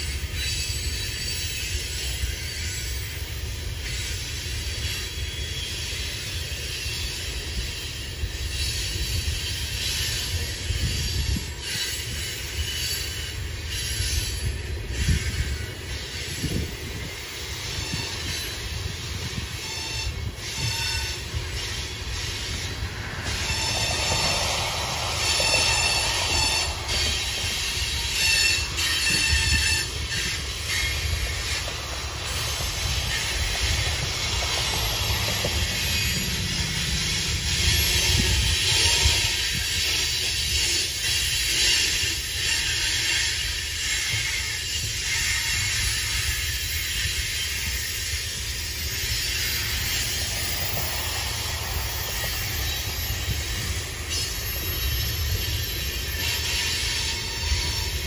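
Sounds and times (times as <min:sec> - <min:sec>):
freight train wheels rumbling: 0:00.0 - 0:58.0
steel wheel squeal: 0:00.0 - 0:58.0.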